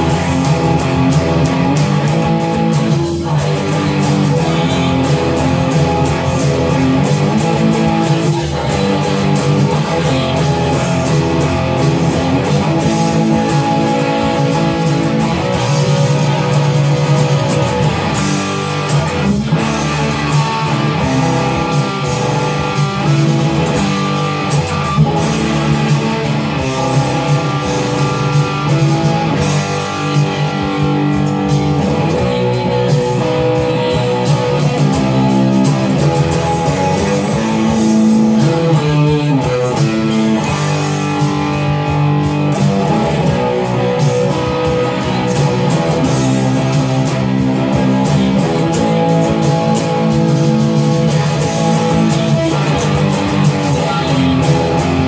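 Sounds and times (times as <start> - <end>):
distorted electric guitar riff: 0.0 - 55.0.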